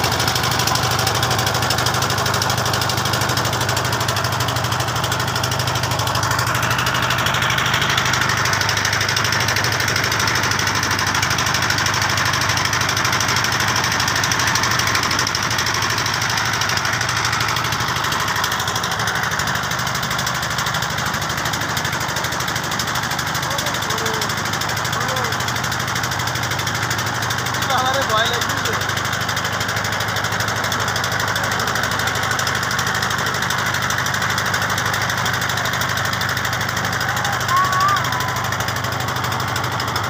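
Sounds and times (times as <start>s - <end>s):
boat engine drone: 0.0s - 40.0s.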